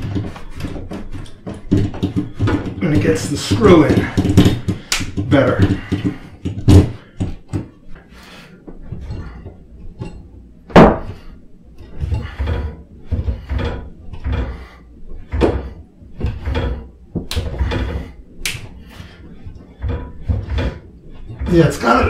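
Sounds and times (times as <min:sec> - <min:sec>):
screwdriver knocking and scraping: 0:00.0 - 0:08.0, 0:08.7 - 0:22.0.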